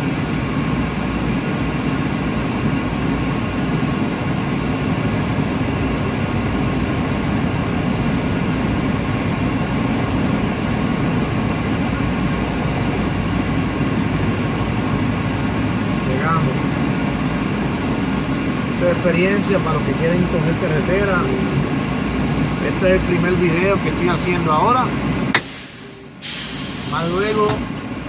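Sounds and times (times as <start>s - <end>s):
truck diesel engine drone: 0.0s - 28.0s.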